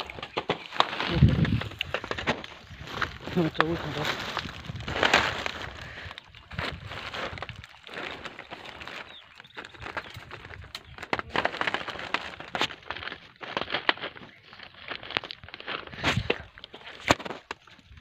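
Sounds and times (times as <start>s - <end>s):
branches snapping and cracking: 0.0s - 18.0s
leaves rustling: 0.0s - 18.0s.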